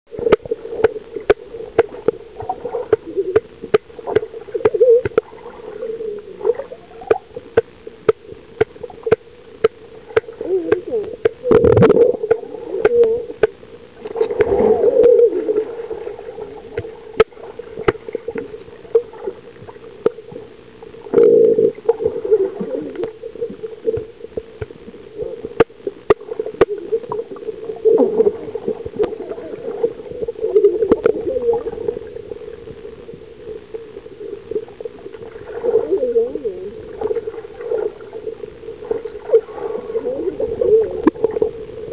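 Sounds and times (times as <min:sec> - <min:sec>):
pool water splashing and gurgling: 0:00.1 - 0:41.9
steady hum: 0:00.1 - 0:41.9.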